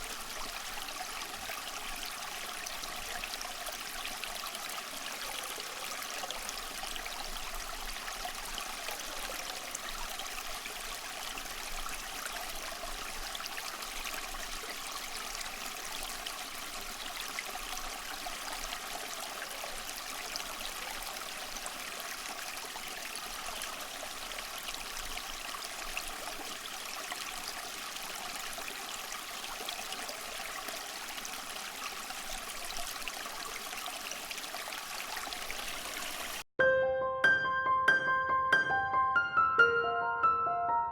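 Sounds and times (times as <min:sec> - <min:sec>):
fountain water trickling and splashing: 0:00.0 - 0:36.5.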